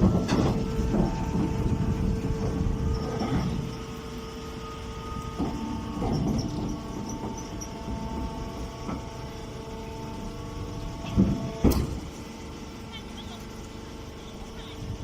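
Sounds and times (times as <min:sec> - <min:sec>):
low rumbling: 0:00.0 - 0:12.9
baler machine motor hum: 0:00.0 - 0:15.0.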